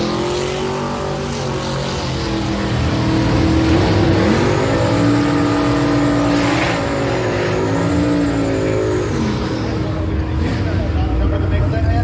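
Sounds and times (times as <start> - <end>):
drag car engine running loud: 0.0 - 12.0.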